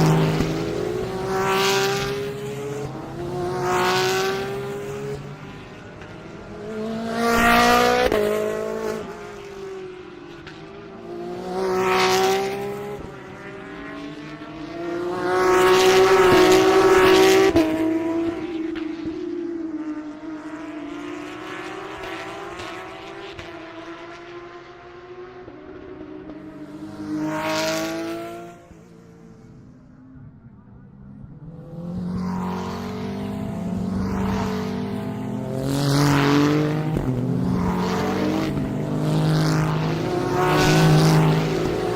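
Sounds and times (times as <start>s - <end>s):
race cars passing at speed: 0.0s - 41.9s.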